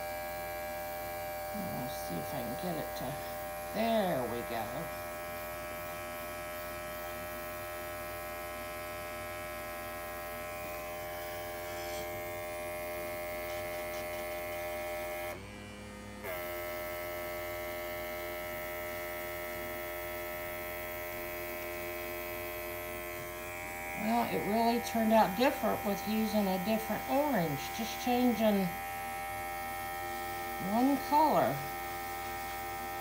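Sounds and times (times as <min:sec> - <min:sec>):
airbrush compressor humming: 0:00.0 - 0:33.0.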